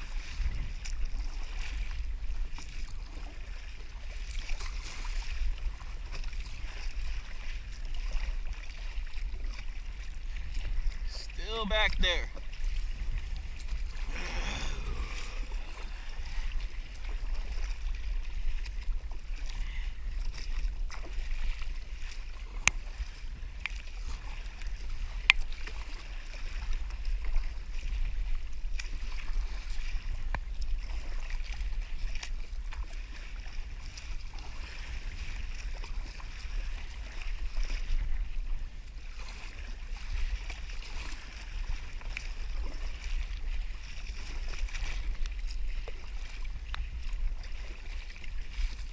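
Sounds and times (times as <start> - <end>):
wind rumble on microphone: 0.0 - 11.4, 12.3 - 48.9
water lapping against kayak hull: 0.0 - 48.9.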